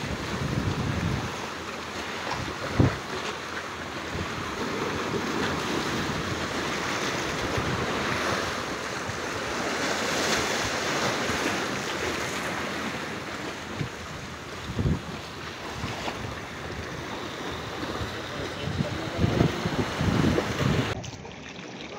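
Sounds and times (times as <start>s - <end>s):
sea waves splashing on rocks: 0.0s - 21.9s.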